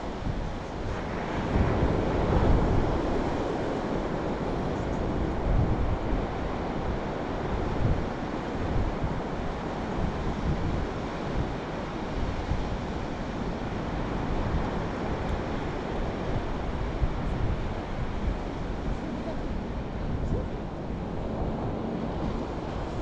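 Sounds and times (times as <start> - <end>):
surf on a sandy beach: 0.0 - 23.0
wind buffeting the microphone: 0.0 - 23.0.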